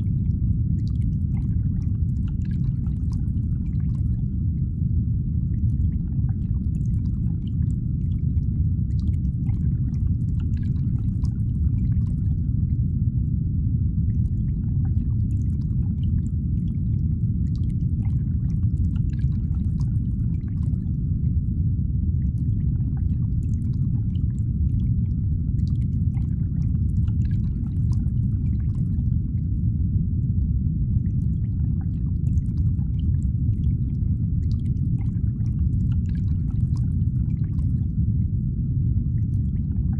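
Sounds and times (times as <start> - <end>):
faint drip-like ticks: 0.0 - 39.9
faint high hum: 0.0 - 39.9
low rumbling ambience: 0.0 - 39.9.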